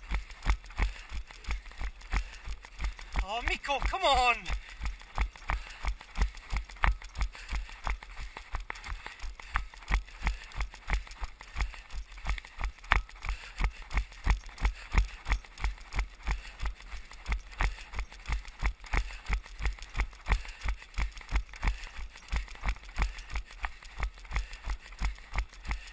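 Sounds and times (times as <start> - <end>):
running footfalls: 0.0 - 25.9.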